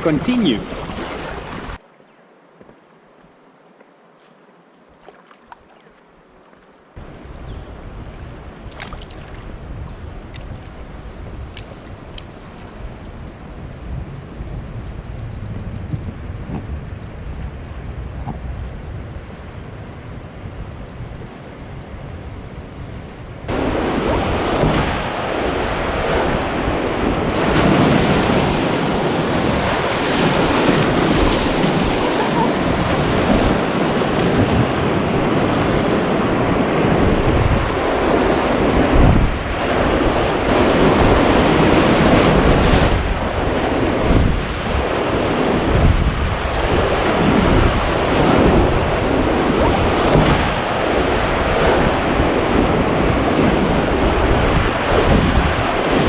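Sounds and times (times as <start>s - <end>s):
rushing river water: 0.0s - 13.3s, 23.5s - 56.0s
wind buffeting microphone: 7.0s - 56.0s.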